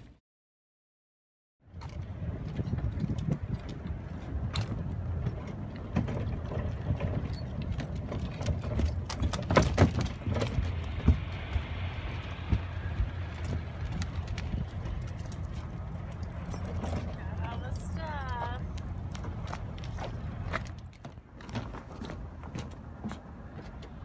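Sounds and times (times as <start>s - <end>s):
footsteps on wooden boards: 1.8s - 17.5s, 18.2s - 24.0s.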